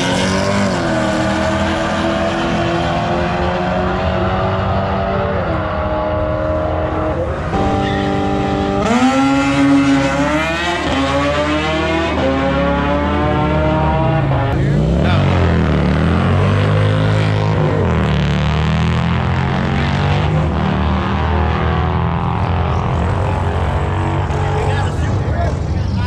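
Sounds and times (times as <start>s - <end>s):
motorcycle engine revving through gears: 0.0s - 24.6s.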